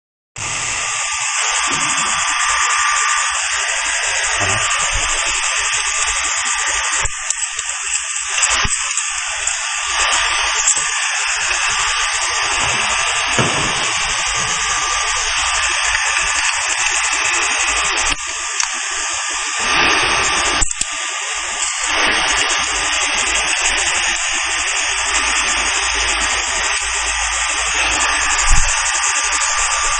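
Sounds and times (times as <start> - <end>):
machine high-pitched hiss: 0.4 - 29.9.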